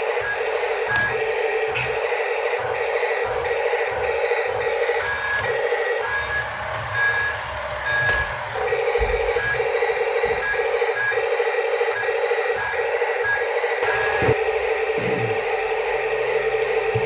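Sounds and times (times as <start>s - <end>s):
electronic beeping: 0.0s - 17.0s.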